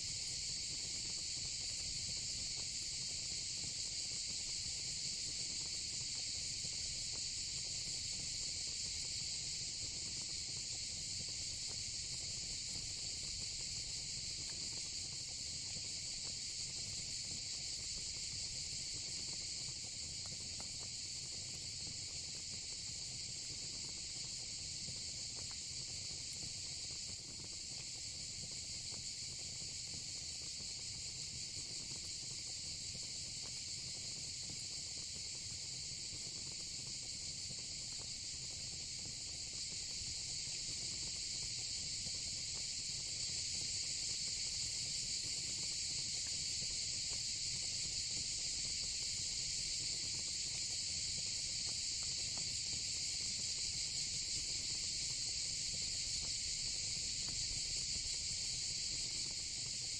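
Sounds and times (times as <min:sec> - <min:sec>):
crickets and cicadas chirping: 0:00.0 - 0:59.9.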